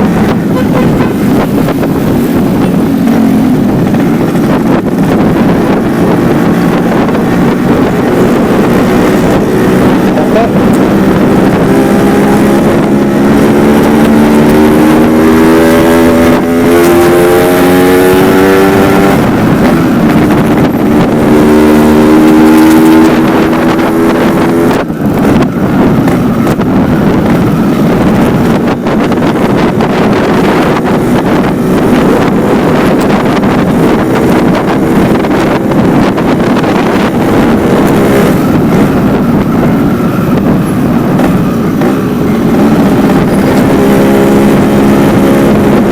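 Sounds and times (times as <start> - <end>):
two-stroke motorcycle exhaust: 0.0 - 45.9.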